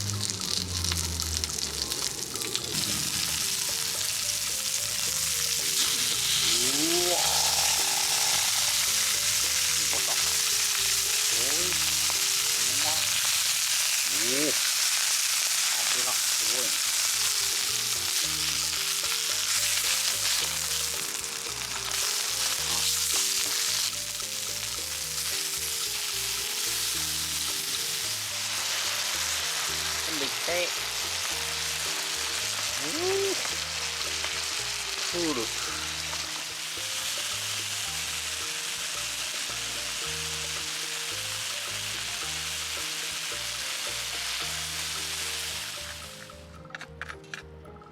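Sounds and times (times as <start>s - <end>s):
food sizzling on a griddle: 0.0s - 46.5s.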